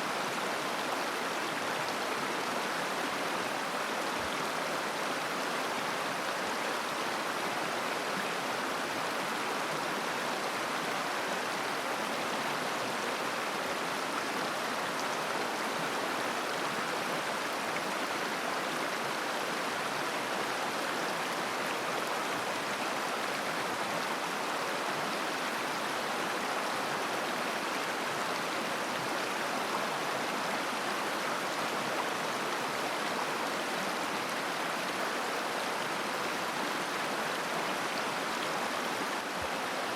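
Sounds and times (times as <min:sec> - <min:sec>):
river babbling over stones: 0:00.0 - 0:39.9.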